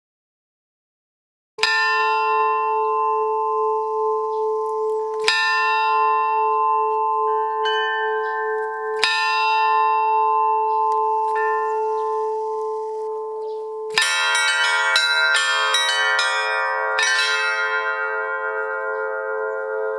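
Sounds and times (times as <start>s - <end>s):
bell ringing: 1.6s - 19.9s.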